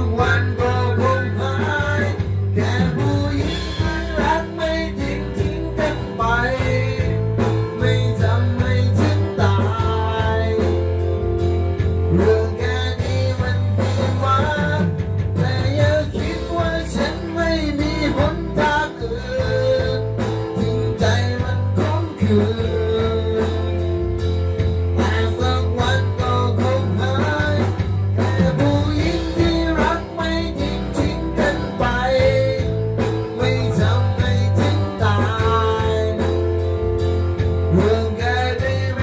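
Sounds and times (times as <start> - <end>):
music with guitar bass and beat: 0.0 - 39.0
person singing: 0.0 - 39.0.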